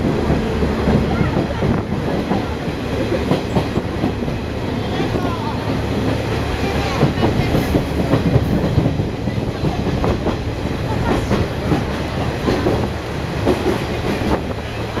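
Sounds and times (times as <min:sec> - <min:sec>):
trolley rumbling on rails: 0:00.0 - 0:15.0.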